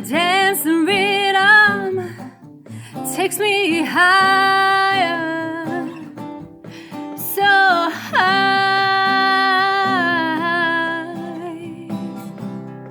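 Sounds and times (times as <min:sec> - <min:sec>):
acoustic guitar: 0:00.0 - 0:12.9.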